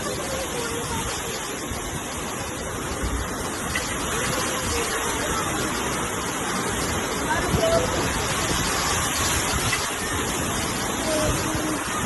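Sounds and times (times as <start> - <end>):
heavy rain pouring: 0.0 - 12.0
strong wind: 0.0 - 12.0.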